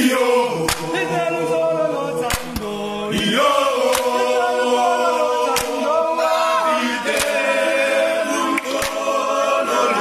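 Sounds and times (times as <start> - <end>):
men singing in harmony: 0.0 - 10.0.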